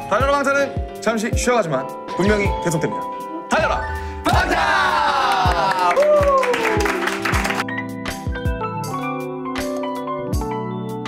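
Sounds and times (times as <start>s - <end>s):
upbeat music with kick drum: 0.0s - 10.6s.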